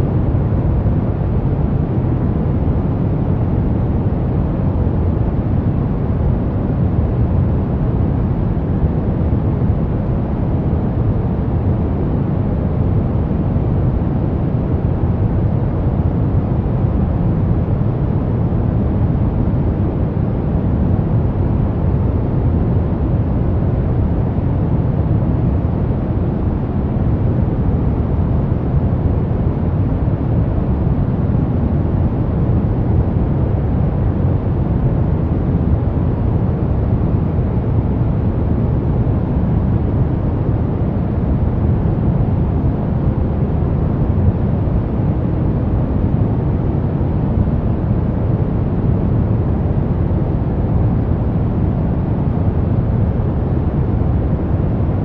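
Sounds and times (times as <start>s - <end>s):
brown noise: 0.0s - 55.0s.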